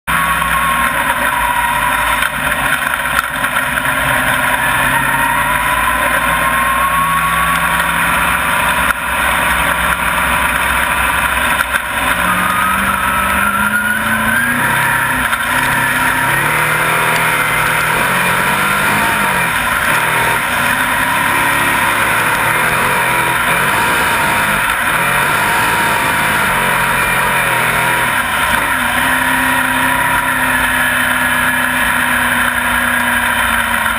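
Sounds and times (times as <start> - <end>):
race car engine revving: 0.1 - 33.9.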